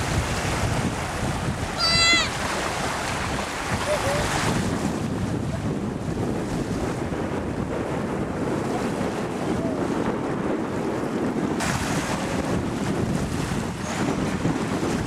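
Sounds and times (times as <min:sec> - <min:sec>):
water and waves rushing: 0:00.0 - 0:15.0
wind buffeting microphone: 0:00.0 - 0:15.0.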